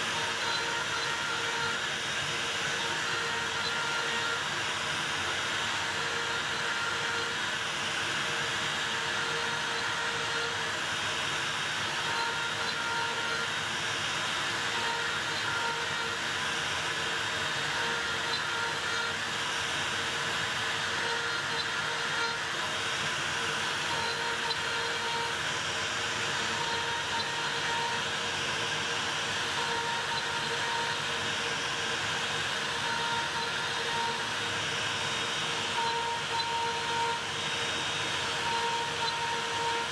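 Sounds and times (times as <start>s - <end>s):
router whining at high speed: 0.0s - 39.9s.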